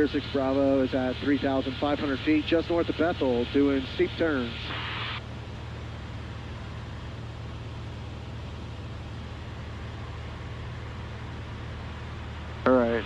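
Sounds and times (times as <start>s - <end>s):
light aircraft engine and propeller drone: 0.0s - 13.0s.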